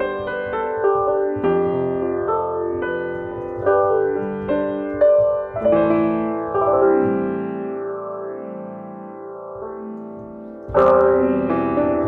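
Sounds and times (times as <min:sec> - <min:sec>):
lo-fi piano chords: 0:00.0 - 0:12.0.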